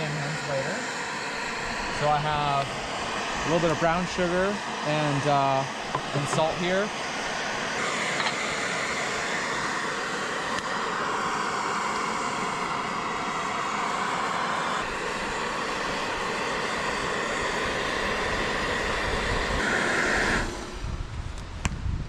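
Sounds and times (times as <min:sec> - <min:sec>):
gas stove burner roaring: 0:00.0 - 0:21.8.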